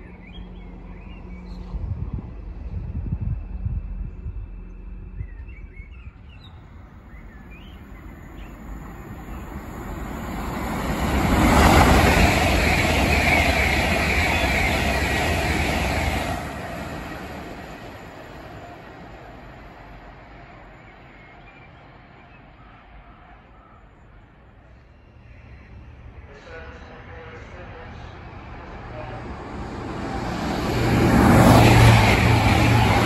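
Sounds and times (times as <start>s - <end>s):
express train passing at speed: 0.0s - 33.0s.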